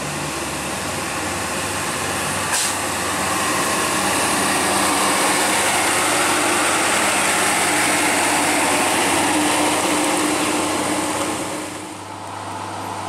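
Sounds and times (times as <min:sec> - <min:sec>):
truck diesel engine under load: 0:00.0 - 0:13.0.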